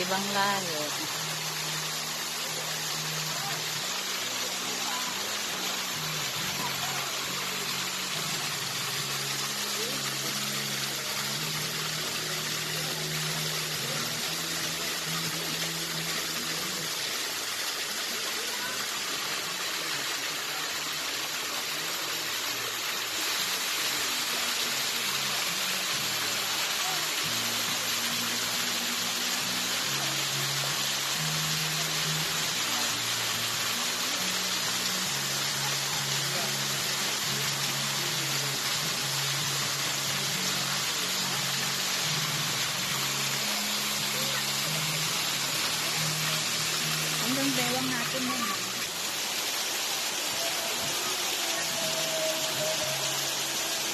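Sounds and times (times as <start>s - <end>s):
flowing spring water: 0.0s - 53.9s.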